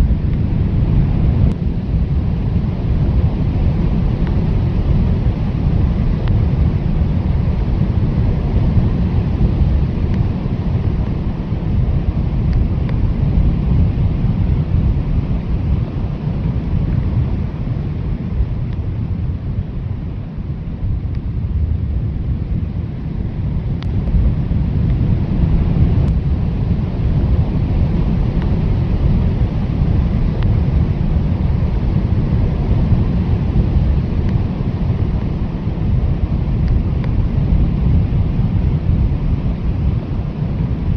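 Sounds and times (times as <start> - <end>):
blizzard wind blowing hard: 0.0 - 40.9.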